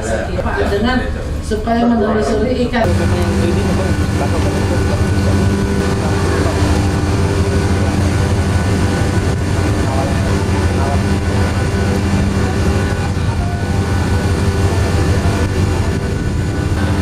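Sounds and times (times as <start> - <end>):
indistinct voices: 0.0 - 17.0
ship engine humming: 0.0 - 17.0.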